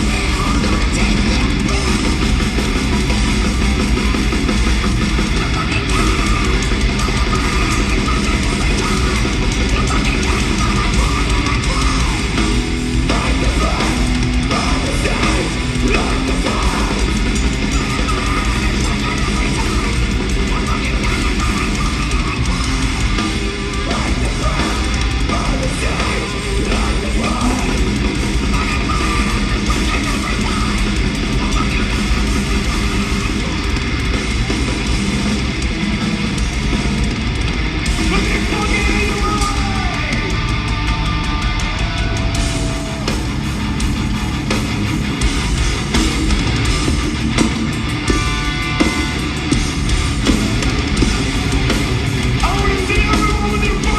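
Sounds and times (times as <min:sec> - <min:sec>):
electric guitar line bending: 0:00.0 - 0:53.9
heavy metal band playing: 0:00.0 - 0:53.9.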